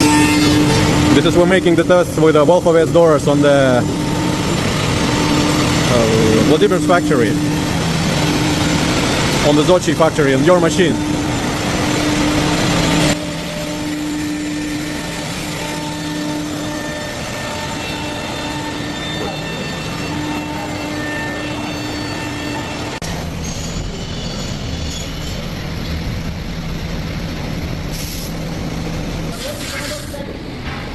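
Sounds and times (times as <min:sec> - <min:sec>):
machine droning and humming: 0:00.0 - 0:30.9.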